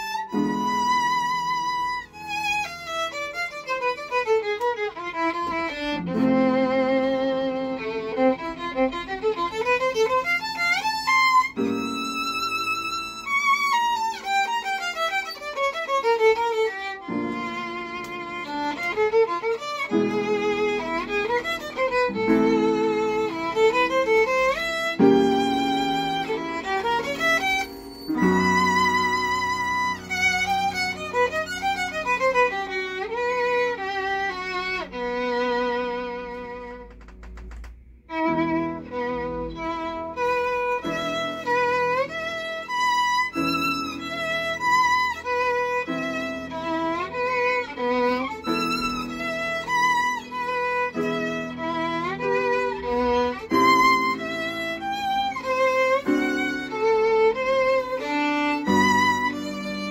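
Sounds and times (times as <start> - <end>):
violin melody with vibrato: 0.0 - 37.4, 38.1 - 59.9
upright piano accompaniment: 0.0 - 59.9.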